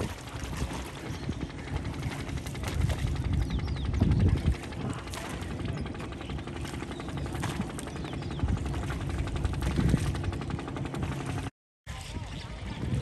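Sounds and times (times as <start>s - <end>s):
motorboat engine puttering: 0.0s - 11.5s.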